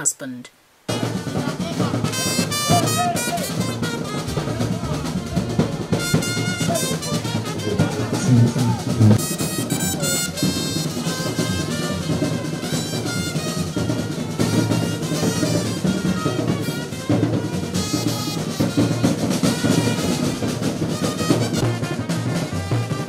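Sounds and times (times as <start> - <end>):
drums: 0.8 - 23.0
trumpets holding notes: 0.9 - 23.0.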